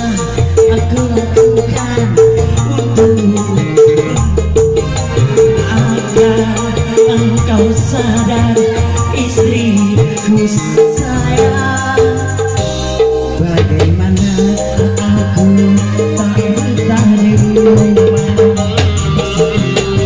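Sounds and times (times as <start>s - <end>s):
hand drums: 0.0s - 20.0s
keyboard: 0.0s - 20.0s
man singing into a microphone: 0.0s - 20.0s.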